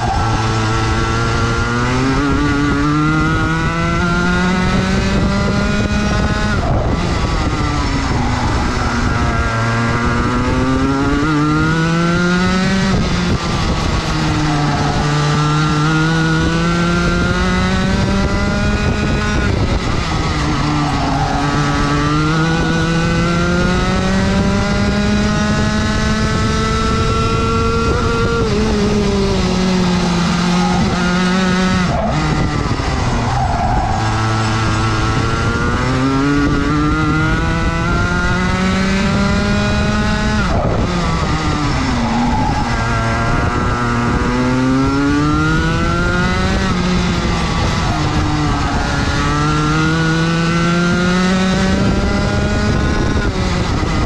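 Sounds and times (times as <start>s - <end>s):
racing kart engine accelerating: 0.0s - 54.0s.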